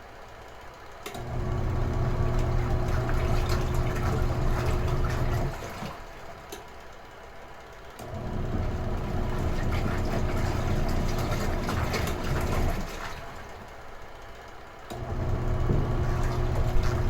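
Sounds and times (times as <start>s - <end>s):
washing machine motor churning water: 1.0s - 17.0s.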